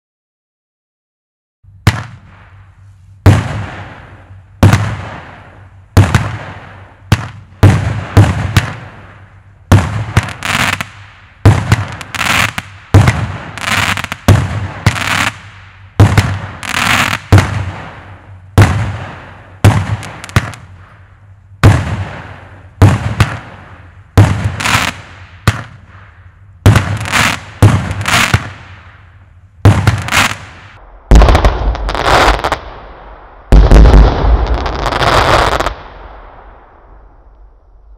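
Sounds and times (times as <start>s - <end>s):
fireworks firing sharp reports: 1.8s - 37.9s
fireworks crackling hiss: 1.9s - 37.3s.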